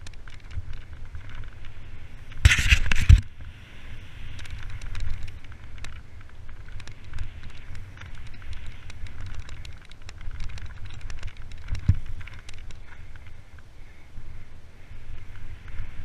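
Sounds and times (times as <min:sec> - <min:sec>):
bike clicks and rattles: 0:00.0 - 0:14.0, 0:15.0 - 0:16.0
bike tyres hissing over dirt: 0:00.0 - 0:16.0
wind buffeting microphone: 0:00.0 - 0:16.0.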